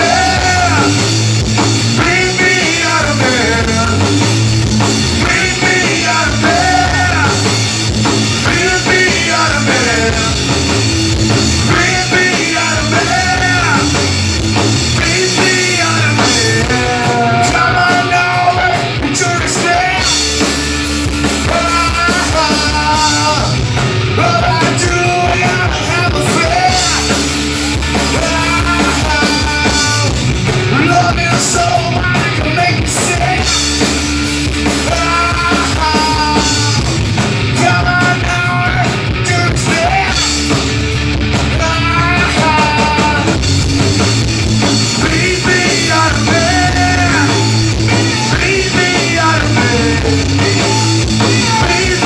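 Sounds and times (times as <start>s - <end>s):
person singing: 0.0s - 34.0s, 34.6s - 40.7s, 41.4s - 43.6s, 44.6s - 52.0s
distorted electric guitars: 0.0s - 52.0s
drum kit: 0.0s - 52.0s.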